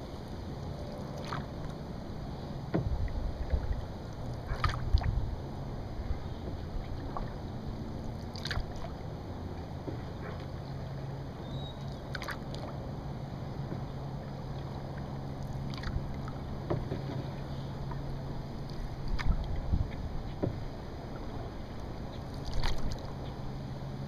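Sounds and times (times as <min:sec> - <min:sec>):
paddle splashes: 0:00.0 - 0:12.9, 0:13.6 - 0:23.4
rush of water and wind: 0:00.0 - 0:24.0.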